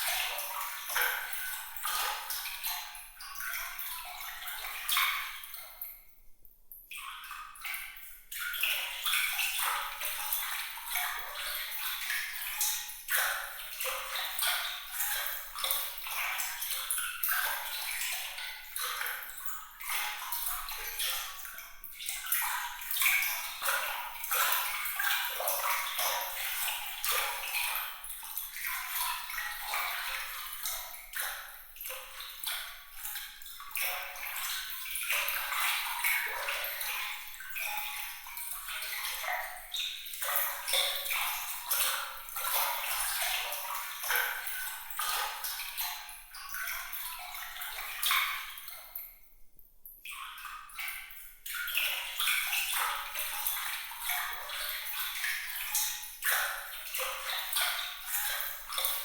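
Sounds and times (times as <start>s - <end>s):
water trickling and splashing: 0.0s - 6.1s, 6.9s - 59.0s.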